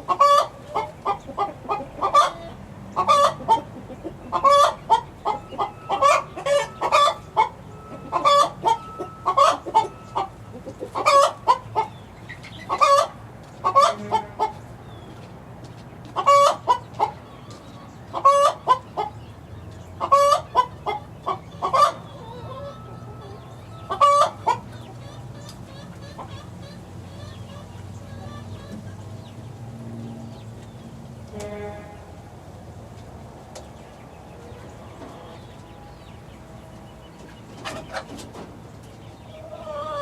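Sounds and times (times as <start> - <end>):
young chickens calling: 0.0 - 40.0.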